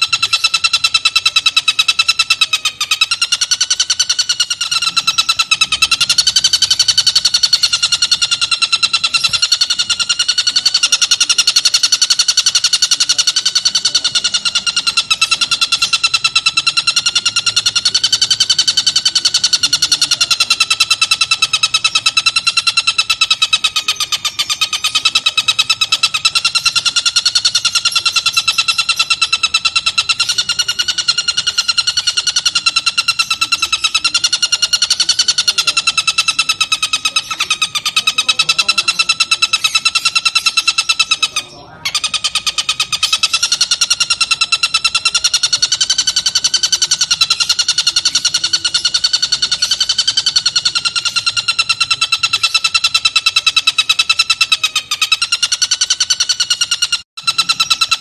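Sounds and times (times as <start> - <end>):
bird cackling chatter: 0.0 - 58.0.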